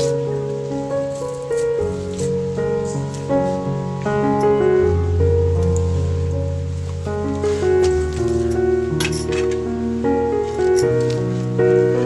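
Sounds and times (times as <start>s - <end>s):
sustained instrumental chords: 1.7s - 12.0s.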